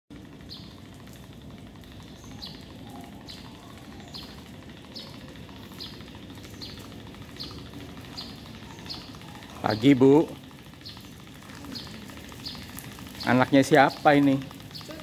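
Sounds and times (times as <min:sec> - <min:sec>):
bird chirping: 0:00.3 - 0:15.0.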